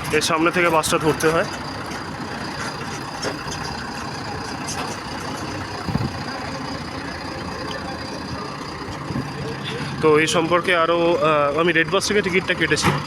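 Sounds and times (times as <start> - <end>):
heavy vehicle engine idling: 0.0 - 13.0
road traffic: 0.0 - 13.0.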